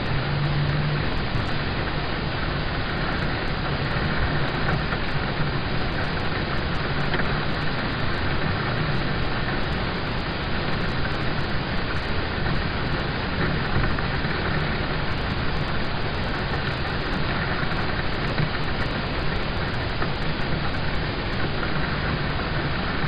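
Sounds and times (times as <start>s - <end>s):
rain on car roof: 0.0s - 23.0s.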